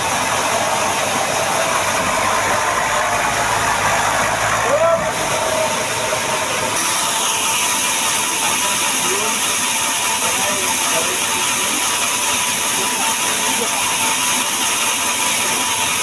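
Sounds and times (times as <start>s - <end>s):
machine hissing: 0.0s - 16.0s.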